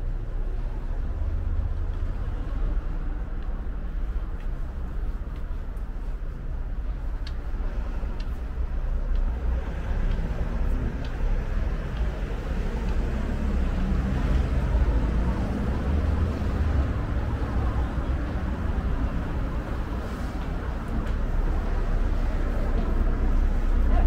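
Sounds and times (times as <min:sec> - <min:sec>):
low rumble of traffic: 0:00.0 - 0:24.0.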